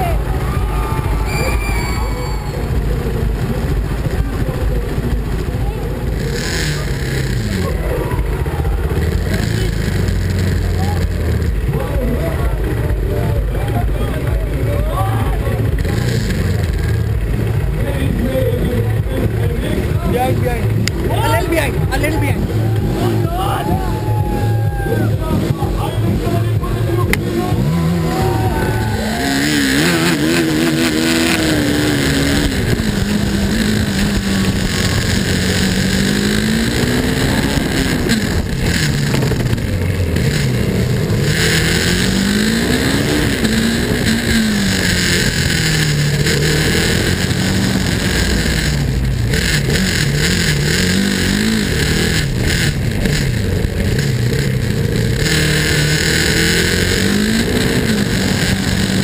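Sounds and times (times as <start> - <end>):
motorcycle engine racing: 0.0 - 59.0.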